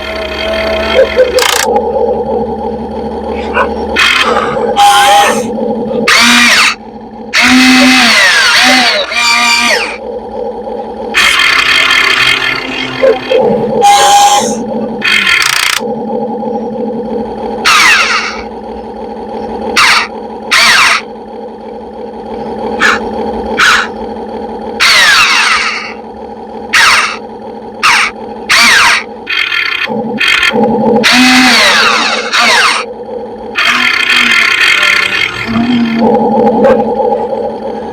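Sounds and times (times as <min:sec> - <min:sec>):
harsh mechanical bursts: 0:00.0 - 0:37.9
model excavator motor whine: 0:00.0 - 0:37.9.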